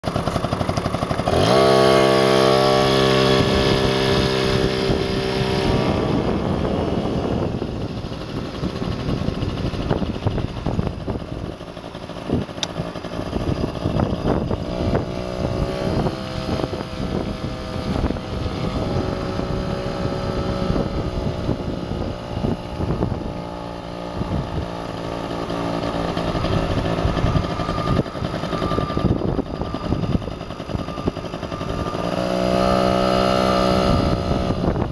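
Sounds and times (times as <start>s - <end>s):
road and wind rumble: 0.0s - 34.9s
vehicle engine revving: 0.2s - 11.2s, 12.6s - 34.9s.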